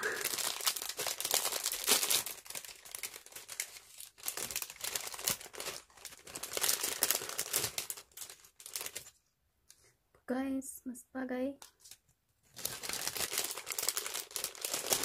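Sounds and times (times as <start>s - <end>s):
plastic packaging crinkling: 0.0s - 9.2s, 11.8s - 15.0s.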